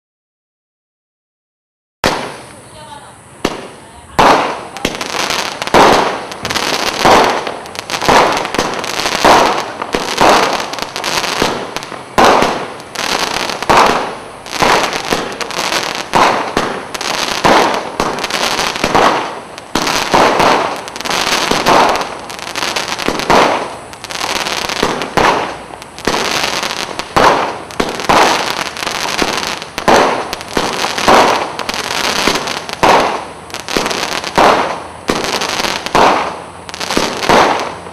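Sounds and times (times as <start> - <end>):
crackling fireworks stars: 2.0 - 37.9
fireworks shots and bursts: 2.0 - 37.9.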